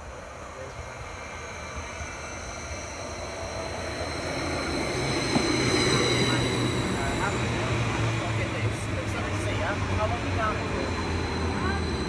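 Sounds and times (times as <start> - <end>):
train rumble and high whine: 0.0 - 12.0.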